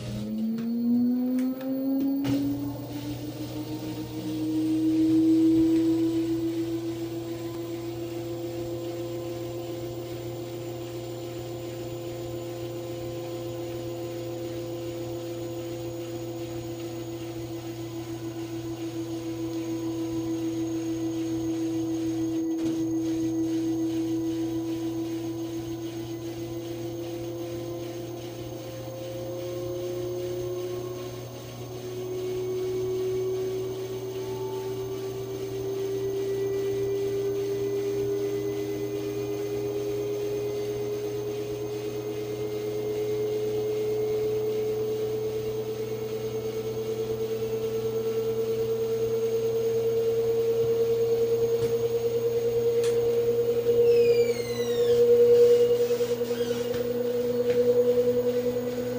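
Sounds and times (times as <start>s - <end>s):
low steady hum: 0.0s - 58.9s
washing machine spin whine: 0.0s - 58.9s.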